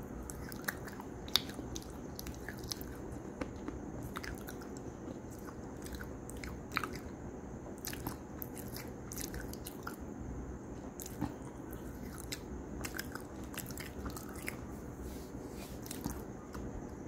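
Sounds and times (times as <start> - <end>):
steady low hum: 0.0 - 17.0
person chewing crunchy food: 0.2 - 7.1, 7.7 - 10.0, 11.0 - 14.8, 15.6 - 16.9.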